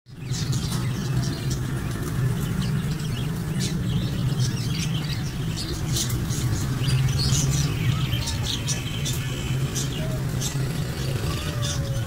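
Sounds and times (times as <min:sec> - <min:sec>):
budgerigars chirping: 0:00.1 - 0:12.0.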